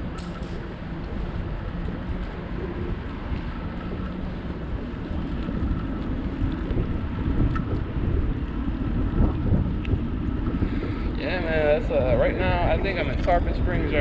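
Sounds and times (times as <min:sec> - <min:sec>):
wind rumbling over microphone: 0:00.0 - 0:14.0.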